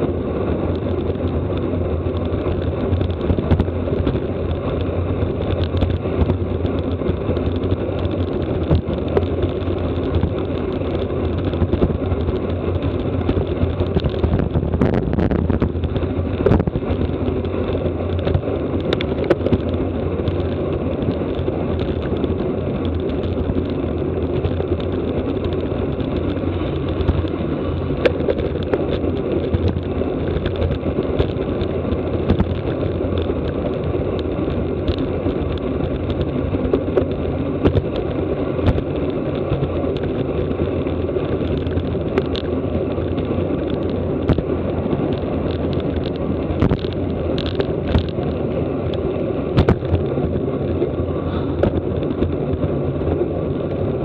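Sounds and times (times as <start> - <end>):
light clicks and ticks from bicycle: 0.0 - 54.0
wind buffeting microphone: 0.0 - 54.0.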